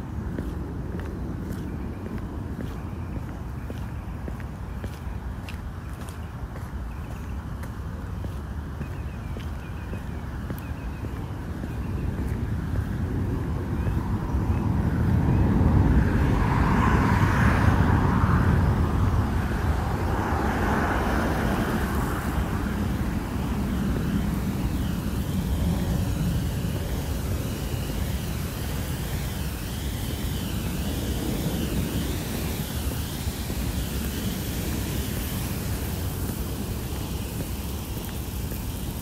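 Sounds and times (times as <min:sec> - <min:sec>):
birds calling faintly: 0:00.0 - 0:15.7, 0:20.0 - 0:39.0
airplane rumbling overhead: 0:00.0 - 0:39.0.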